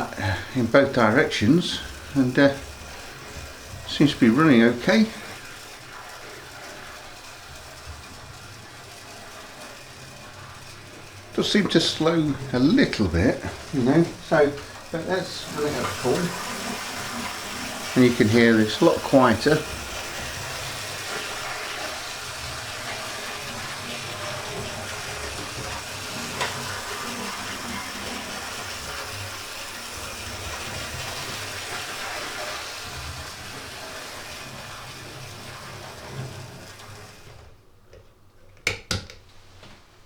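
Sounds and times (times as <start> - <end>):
model locomotive running on rails: 0.0 - 37.7.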